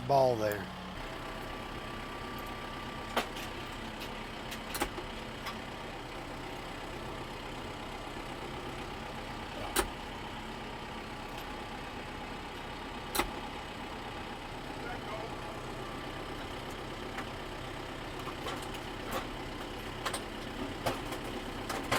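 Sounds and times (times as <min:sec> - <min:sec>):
tractor engine idling: 0:00.0 - 0:21.9.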